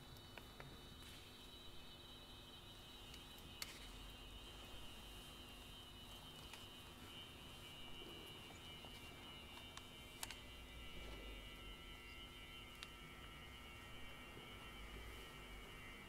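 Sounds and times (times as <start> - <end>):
faint pipe organ cluster: 0.0 - 16.0.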